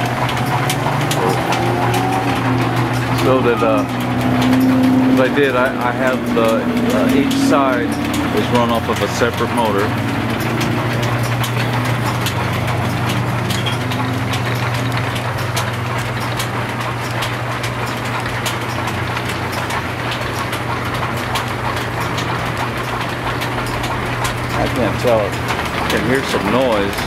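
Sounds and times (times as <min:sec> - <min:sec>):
electric motor hum: 0:00.0 - 0:27.0
spinning pulleys and flapping belts: 0:00.0 - 0:27.0.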